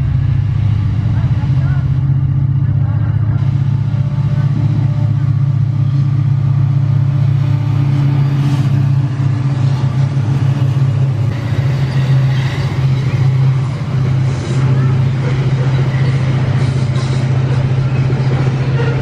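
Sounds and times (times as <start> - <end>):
deep locomotive engine drone: 0.0 - 19.0.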